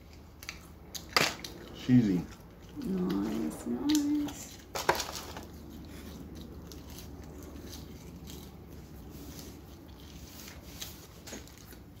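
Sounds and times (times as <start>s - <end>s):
chewing fries: 0.0s - 12.0s
low steady hum: 0.0s - 12.0s.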